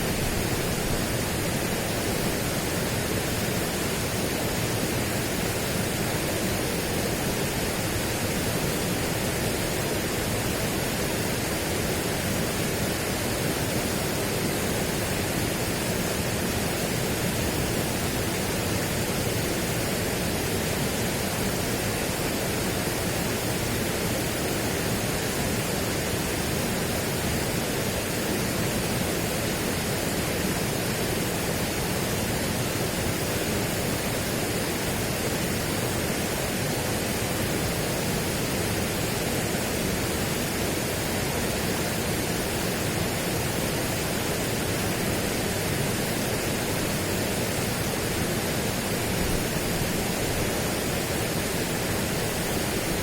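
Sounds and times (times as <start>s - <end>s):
steady broadband rushing noise: 0.0s - 53.0s.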